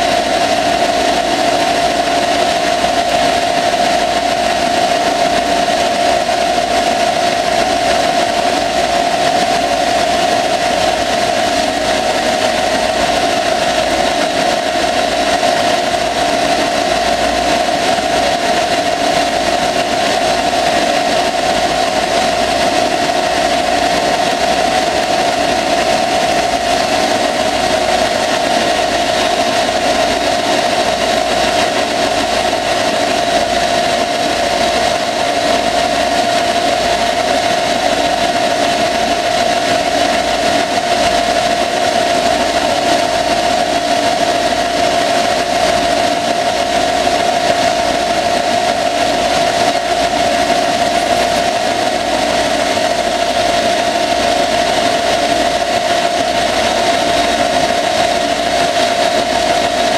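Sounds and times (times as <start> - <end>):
lathe cutting metal with whine: 0.0 - 59.9.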